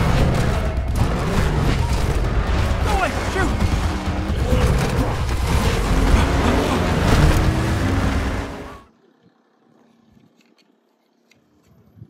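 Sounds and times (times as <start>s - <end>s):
car engines: 0.0s - 11.6s.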